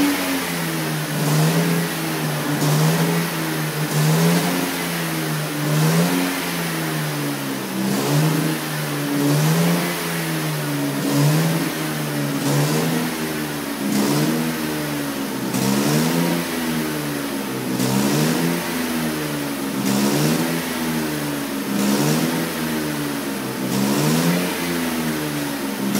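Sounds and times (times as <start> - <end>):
car engine revving at exhaust: 0.0 - 25.9.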